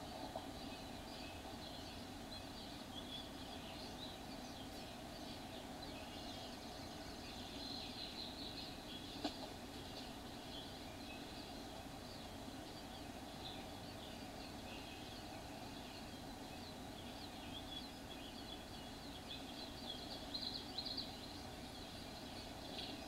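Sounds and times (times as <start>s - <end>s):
faint bird chirps: 0.0s - 23.0s
steady background hiss: 0.0s - 23.0s.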